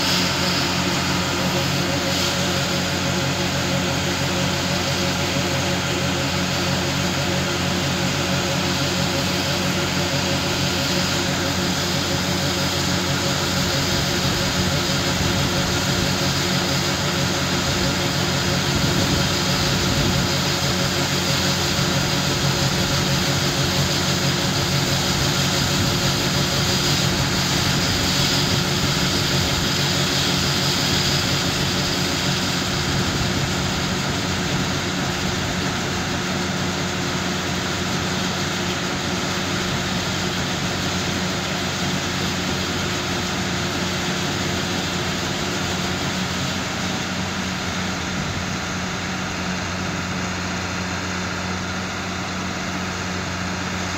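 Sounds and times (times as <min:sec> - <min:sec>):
combine harvester engine running: 0:00.0 - 0:53.9
grain pouring into truck: 0:00.0 - 0:53.9.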